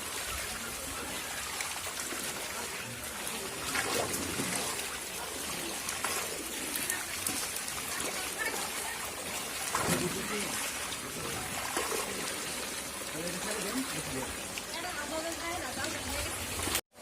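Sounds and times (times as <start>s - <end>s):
water trickling: 0.0s - 16.8s
faint splashes: 0.0s - 17.0s.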